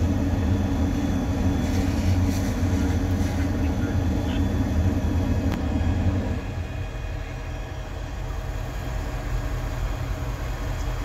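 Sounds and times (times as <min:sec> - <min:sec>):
fire engine pump droning: 0:00.0 - 0:11.0.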